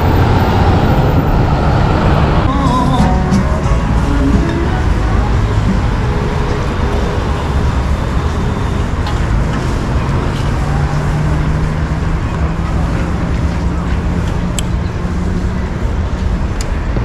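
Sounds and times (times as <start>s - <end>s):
nearby engine hum: 0.0s - 17.0s
street traffic: 0.0s - 17.0s.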